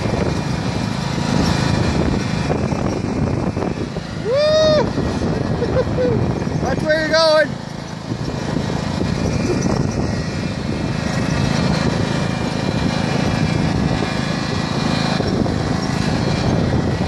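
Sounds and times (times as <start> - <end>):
rough rumble and rattle: 0.0 - 17.0
small engine running: 0.0 - 17.0.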